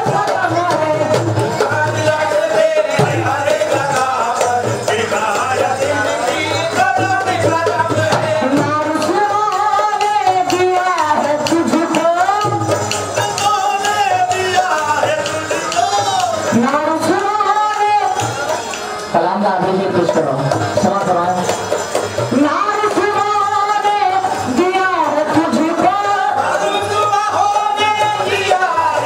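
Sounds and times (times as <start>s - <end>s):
man singing into a microphone: 0.0s - 19.0s, 22.4s - 29.0s
hand drums: 0.0s - 29.0s
harmonium: 0.0s - 29.0s.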